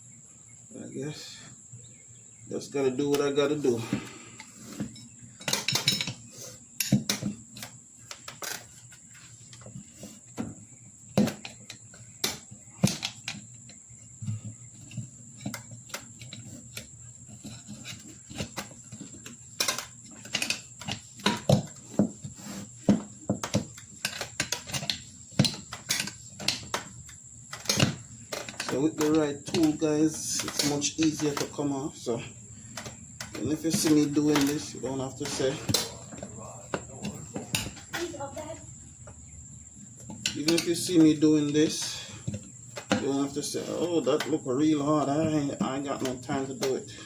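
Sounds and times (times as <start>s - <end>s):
high insect drone: 0.0s - 47.0s
tire tools clicking and scraping: 2.2s - 38.4s, 39.0s - 47.0s.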